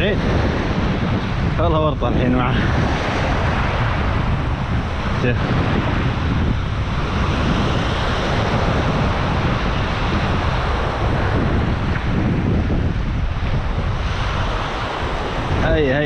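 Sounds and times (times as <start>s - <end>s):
sea surf on rocky shore: 0.0s - 16.0s
wind buffeting microphone: 0.0s - 16.0s.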